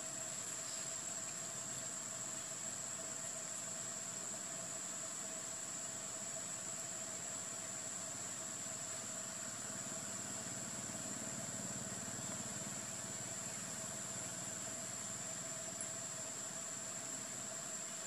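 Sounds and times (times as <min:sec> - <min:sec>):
even hiss: 0:00.0 - 0:18.0.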